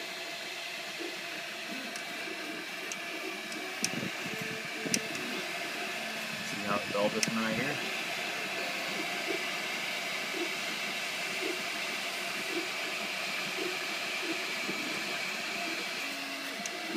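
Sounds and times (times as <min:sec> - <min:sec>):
print head whirring: 0:00.0 - 0:16.9
three-d printer hissing: 0:00.0 - 0:16.9.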